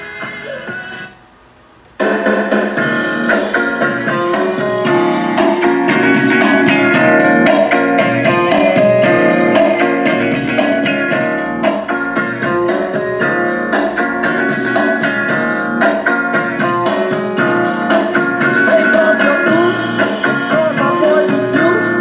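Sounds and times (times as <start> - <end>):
music from amplifier: 0.0 - 22.0.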